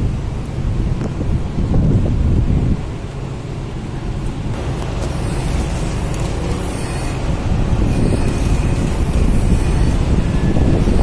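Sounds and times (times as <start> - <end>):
low ferry rumble: 0.0 - 11.0
wind buffeting microphone: 0.0 - 11.0.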